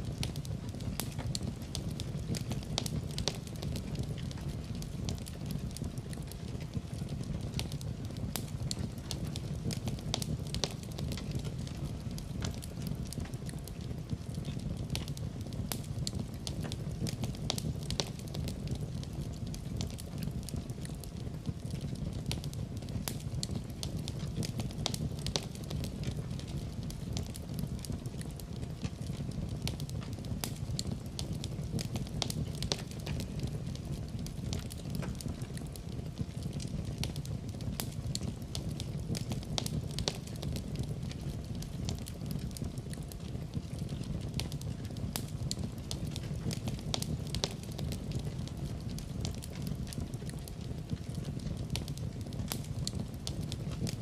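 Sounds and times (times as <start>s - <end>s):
fire pops and snaps: 0.0s - 54.0s
low rush of burning fire: 0.0s - 54.0s.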